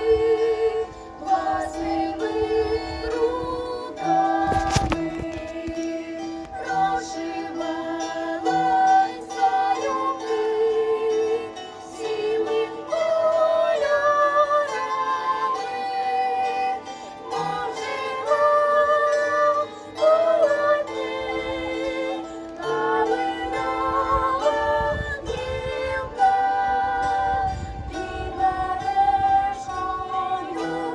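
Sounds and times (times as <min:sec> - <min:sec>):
plucked string ensemble melody: 0:00.0 - 0:30.9
voices singing held notes: 0:00.0 - 0:30.9.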